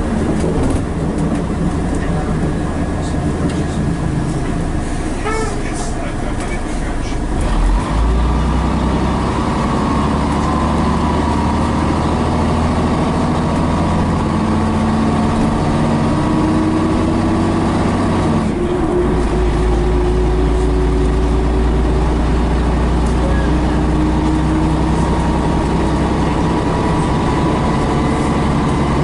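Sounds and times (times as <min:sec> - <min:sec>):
bus diesel engine under load: 0:00.0 - 0:29.0.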